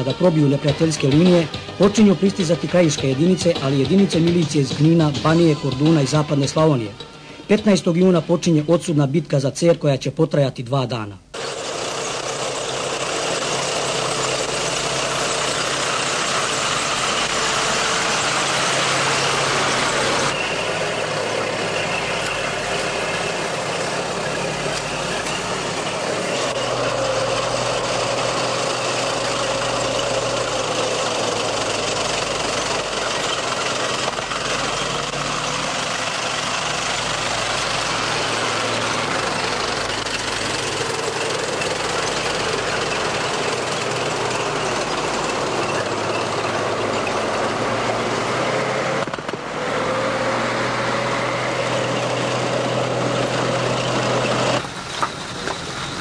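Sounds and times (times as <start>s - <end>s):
dense noisy rattle: 0.0s - 6.9s, 11.4s - 56.0s
heavy vehicle engine droning: 0.0s - 9.6s, 11.2s - 56.0s.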